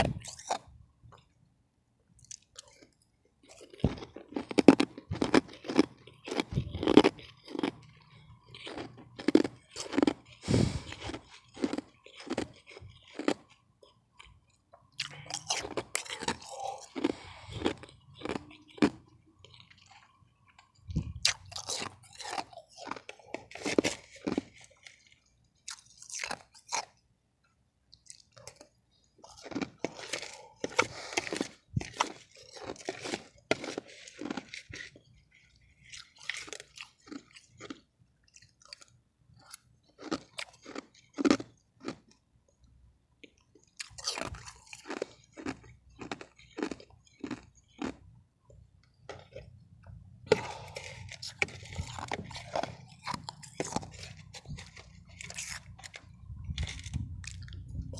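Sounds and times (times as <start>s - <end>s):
ice being crunched and chewed: 0.0s - 1.3s, 2.2s - 27.0s, 27.9s - 42.2s, 43.2s - 49.6s, 50.2s - 57.9s.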